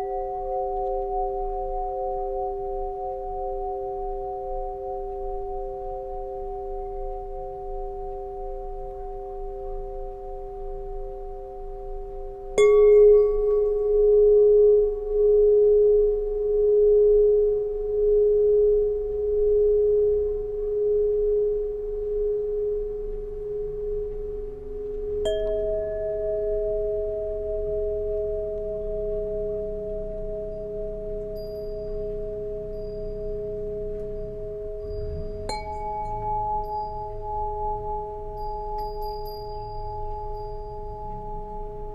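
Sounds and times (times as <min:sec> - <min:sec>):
tuning pipes ringing: 0:00.0 - 0:41.9.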